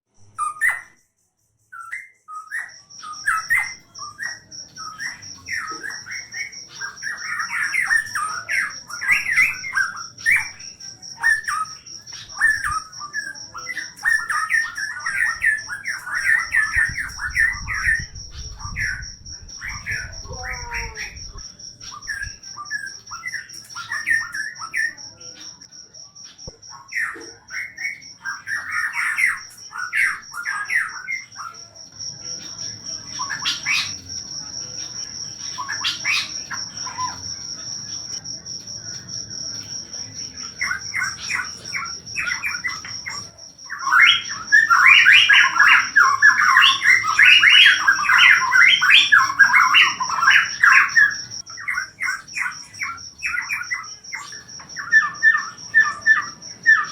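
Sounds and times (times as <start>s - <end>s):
cricket trilling: 0.1s - 56.9s
songbird chattering song: 1.6s - 25.7s, 26.3s - 56.9s.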